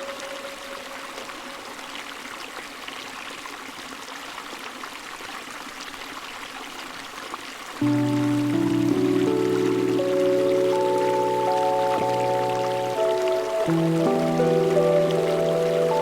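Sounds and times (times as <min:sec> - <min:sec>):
water flowing and trickling: 0:00.0 - 0:16.0.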